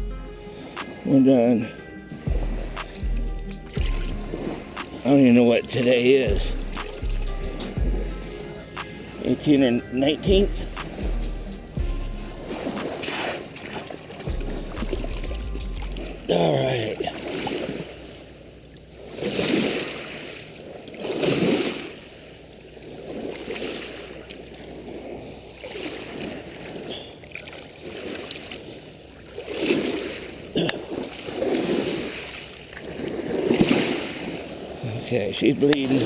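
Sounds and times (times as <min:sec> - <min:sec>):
small waves washing onto beach: 0:00.5 - 0:11.7, 0:12.5 - 0:36.0.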